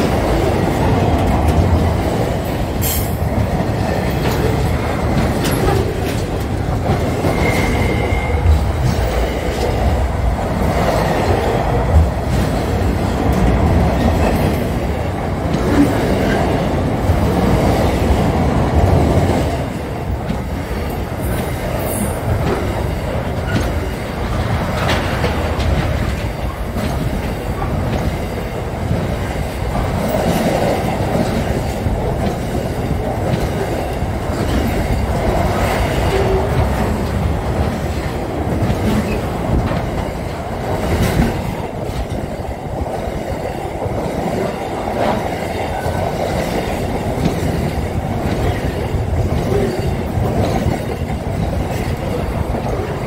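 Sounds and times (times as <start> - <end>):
train wheels rumbling on rails: 0.0 - 53.0
wheels knocking on rail joints: 0.0 - 53.0.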